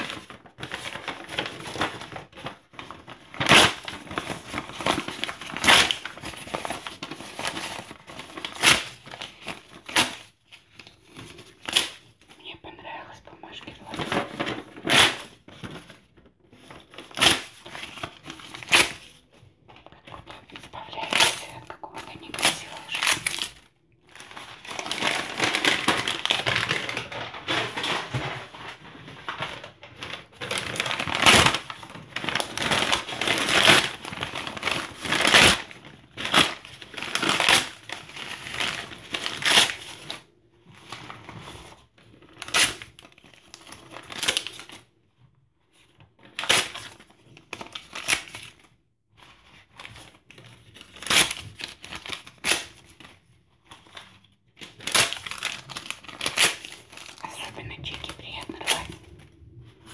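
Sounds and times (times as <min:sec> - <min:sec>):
paper tearing and crumpling: 0:00.0 - 0:12.2, 0:13.7 - 0:19.3, 0:20.2 - 0:44.8, 0:46.2 - 0:57.6.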